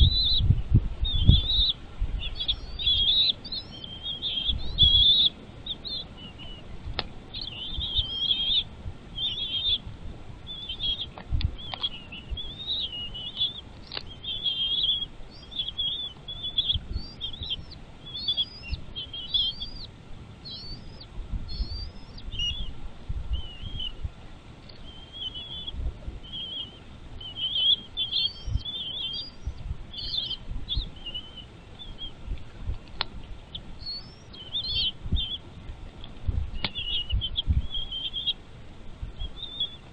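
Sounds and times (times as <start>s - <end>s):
birds chirping: 0.0s - 39.9s
low rumbling: 0.0s - 39.9s.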